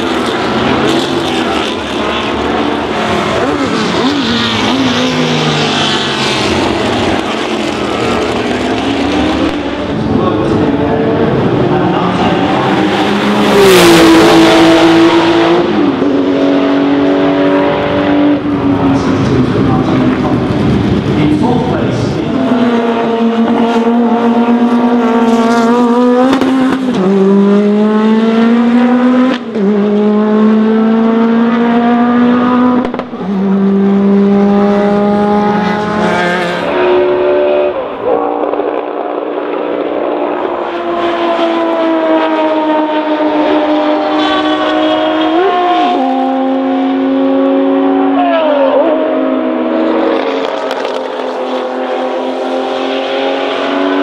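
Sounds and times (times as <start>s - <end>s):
race car engines at full throttle: 0.0s - 54.0s.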